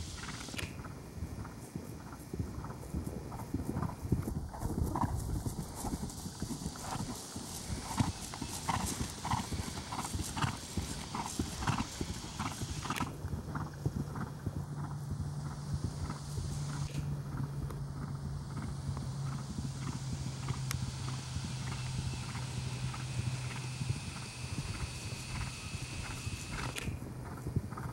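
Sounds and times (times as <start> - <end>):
horse hooves cantering on grass: 0.0 - 27.9.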